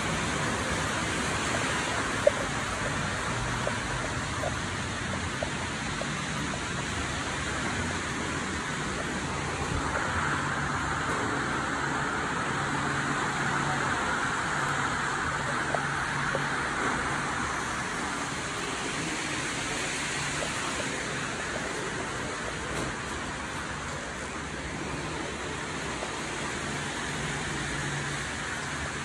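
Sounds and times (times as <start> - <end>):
model trains running: 0.0 - 29.0.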